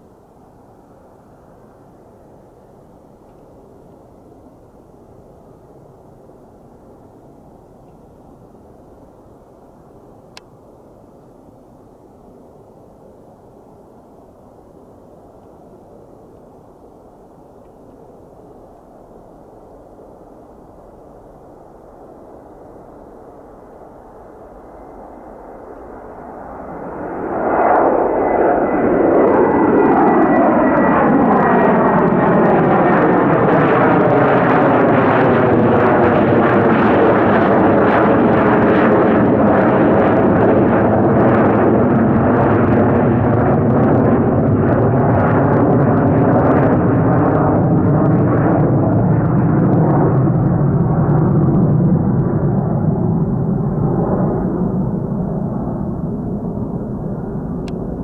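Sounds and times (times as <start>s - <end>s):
jet engines at takeoff: 0.0s - 58.0s.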